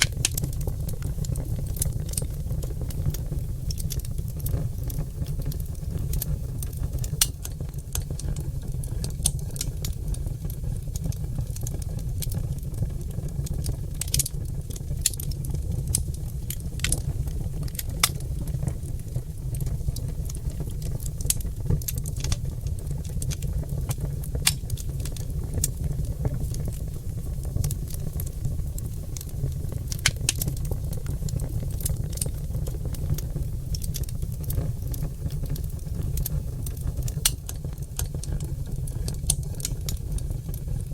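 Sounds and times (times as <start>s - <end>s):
fire crackles and pops: 0.0s - 40.9s
logs burning in fireplace: 0.0s - 40.9s.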